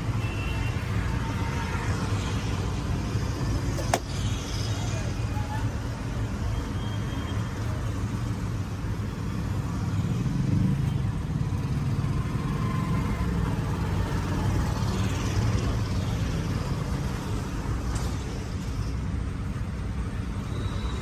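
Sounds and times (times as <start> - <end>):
passing vehicle engines: 0.0 - 21.0.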